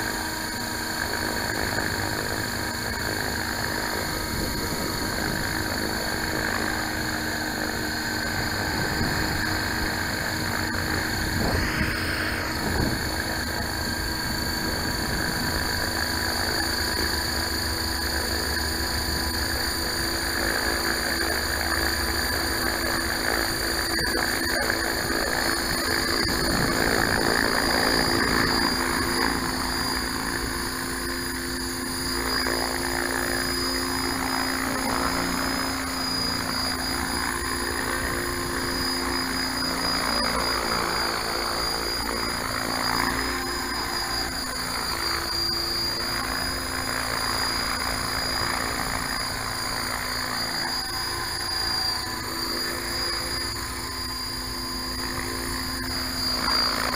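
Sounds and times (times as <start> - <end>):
model helicopter rotor hum: 0.0 - 56.9.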